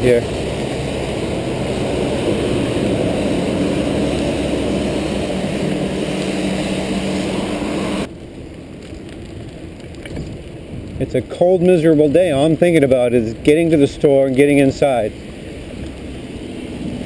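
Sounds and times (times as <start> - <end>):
road traffic passing: 0.0 - 10.8, 12.7 - 17.0
truck engine on wet road: 0.0 - 10.8, 12.0 - 17.0.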